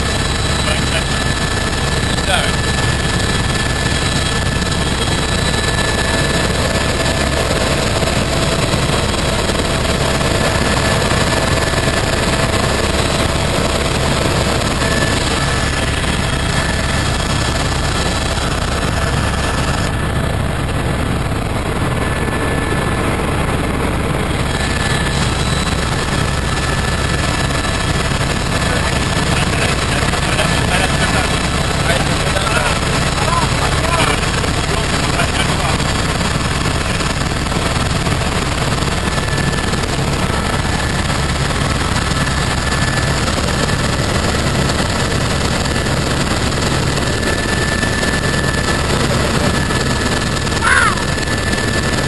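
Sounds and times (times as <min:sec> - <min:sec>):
high whining tones: 0:00.0 - 0:44.4
helicopter engine and rotor: 0:00.0 - 0:52.0.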